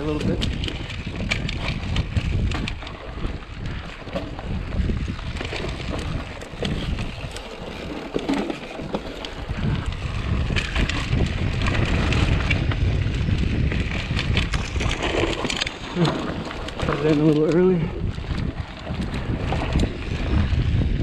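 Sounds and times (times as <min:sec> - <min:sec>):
bike clicking and rattling: 0:00.0 - 0:21.0
bike tyre noise: 0:00.0 - 0:21.0
wind buffeting microphone: 0:00.0 - 0:21.0.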